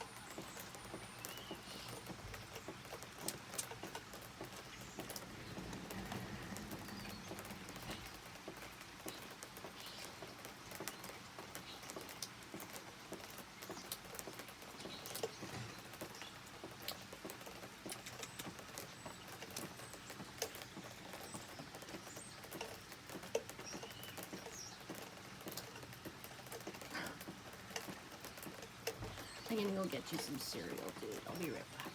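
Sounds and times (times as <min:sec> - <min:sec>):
rain pattering: 0:00.0 - 0:31.9
small clicks and taps: 0:00.3 - 0:31.9.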